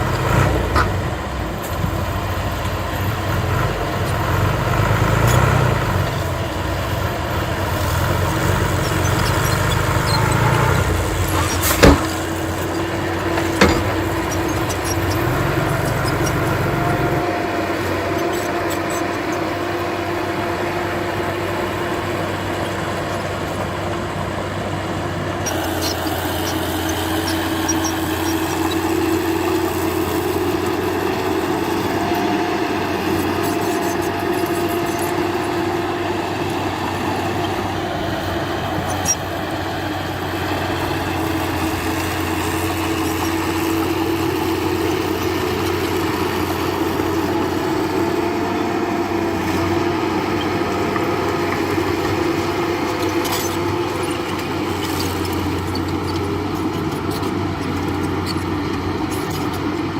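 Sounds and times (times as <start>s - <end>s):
continuous whine: 0.0s - 59.9s
heavy machinery diesel engine: 0.0s - 59.9s.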